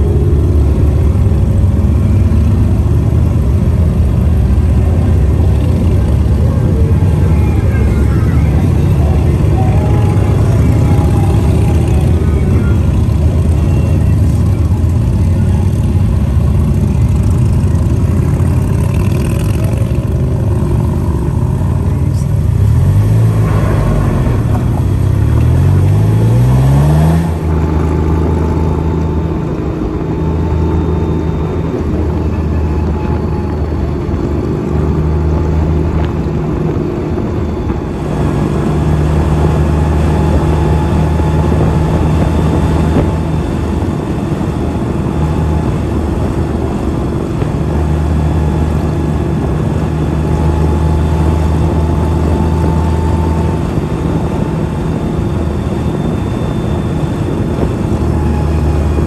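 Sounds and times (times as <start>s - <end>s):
motorcycle engines revving: 0.0s - 59.0s
road and wind noise: 0.0s - 59.0s
steady engine drone: 0.0s - 59.0s.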